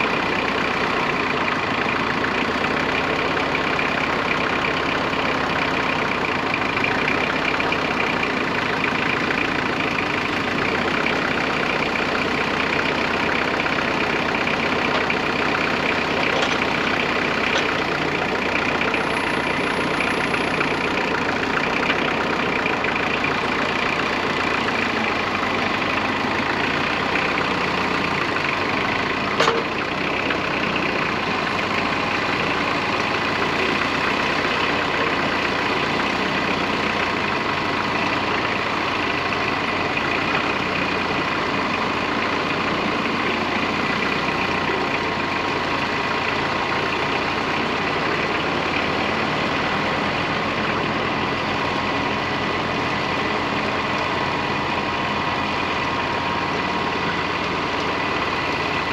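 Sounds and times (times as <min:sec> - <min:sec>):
engine idling: 0:00.0 - 0:58.9.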